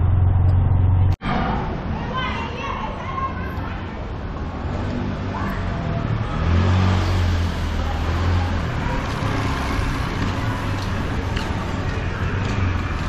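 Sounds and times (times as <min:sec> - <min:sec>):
vehicle engine humming: 0:00.0 - 0:02.0, 0:02.6 - 0:13.0
road noise: 0:00.0 - 0:13.0.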